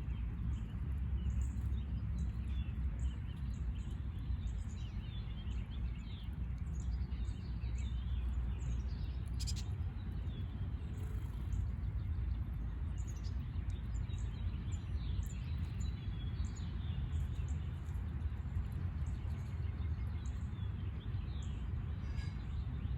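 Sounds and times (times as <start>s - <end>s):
songbirds chirping: 0.0s - 22.9s
steady low rumble: 0.0s - 22.9s.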